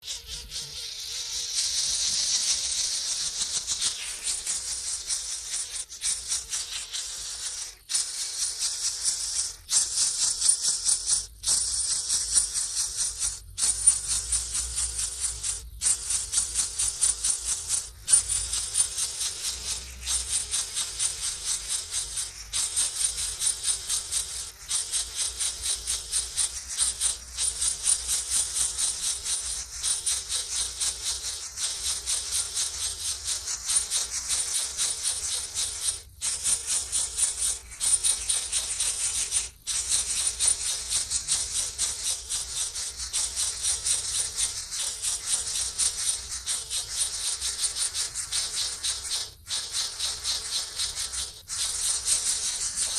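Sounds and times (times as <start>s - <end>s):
nestlings begging chatter: 0.0s - 52.9s.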